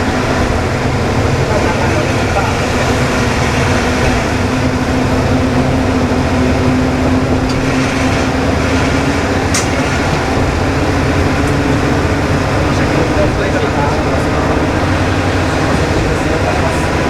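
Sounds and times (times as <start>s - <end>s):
diesel engine drone: 0.0s - 17.0s
wheels on rails: 0.0s - 17.0s.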